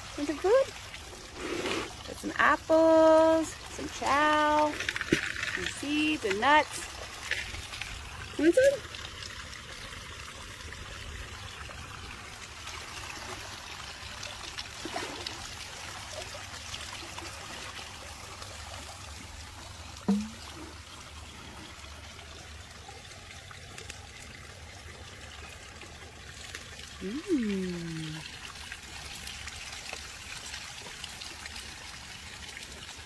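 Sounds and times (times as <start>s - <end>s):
water trickling and lapping: 0.0s - 33.0s.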